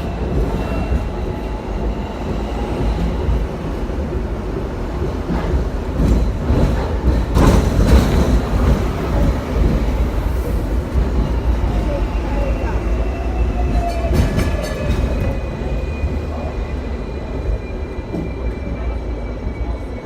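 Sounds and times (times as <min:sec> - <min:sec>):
tram wheels rumbling: 0:00.0 - 0:20.0.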